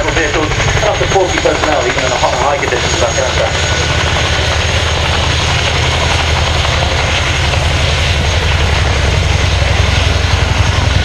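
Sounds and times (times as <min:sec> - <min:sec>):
helicopter rotor thump: 0:00.0 - 0:11.0
high whine: 0:00.2 - 0:11.0.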